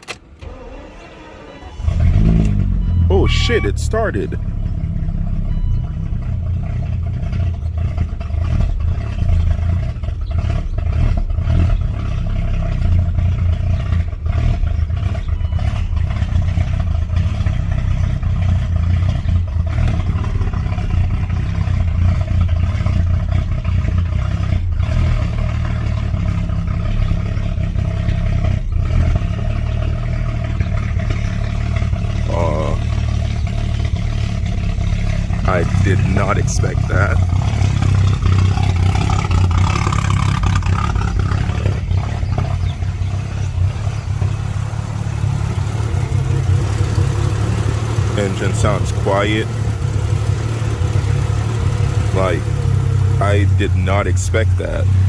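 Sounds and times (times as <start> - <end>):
car engine running: 0.0 - 55.0
exhaust pops: 1.7 - 55.0.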